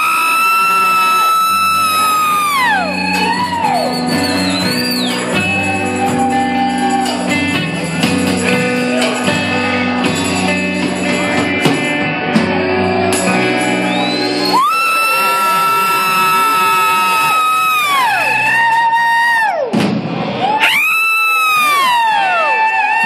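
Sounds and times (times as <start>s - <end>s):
guitar slide: 0.0s - 19.0s
rock band playing: 0.0s - 19.5s.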